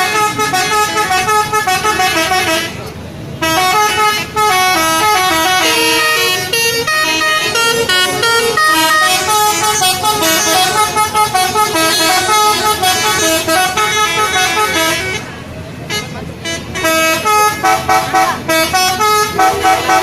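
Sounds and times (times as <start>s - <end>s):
musical bus air horn melody: 0.0s - 15.3s, 15.9s - 20.0s.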